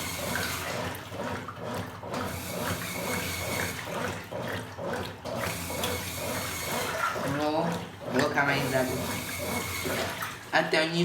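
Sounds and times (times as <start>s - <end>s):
washing machine motor hum: 0.0s - 11.0s
water pouring and sloshing: 0.0s - 11.0s.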